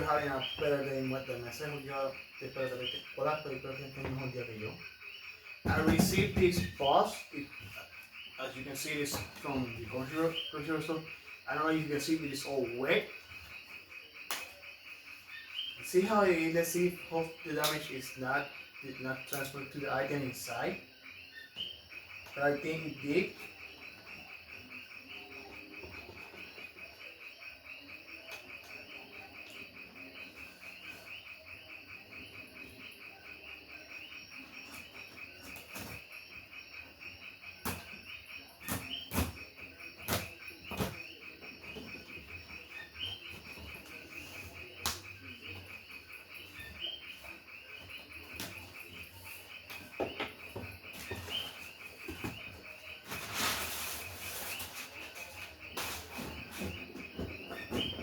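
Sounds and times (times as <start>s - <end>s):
frogs and insects calling: 0.0s - 58.0s.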